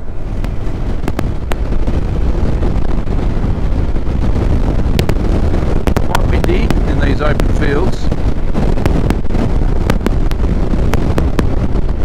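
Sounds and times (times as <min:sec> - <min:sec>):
motorcycle engine rumble: 0:00.0 - 0:12.0
wind on microphone: 0:00.0 - 0:12.0.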